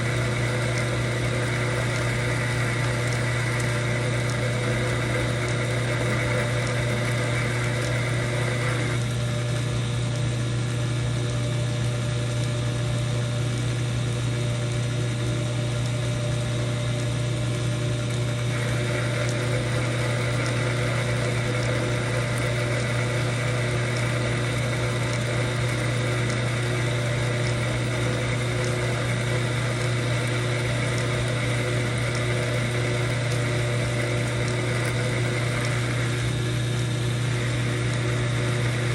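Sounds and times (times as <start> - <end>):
metal lathe motor hum: 0.0 - 38.9.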